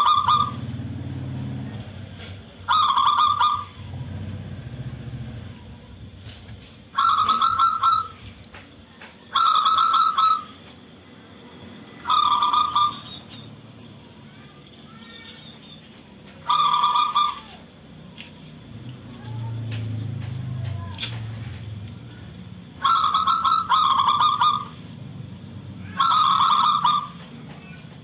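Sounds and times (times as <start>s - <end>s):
dove cooing: 0.0s - 10.8s, 12.0s - 14.5s, 16.4s - 17.7s, 19.0s - 28.0s.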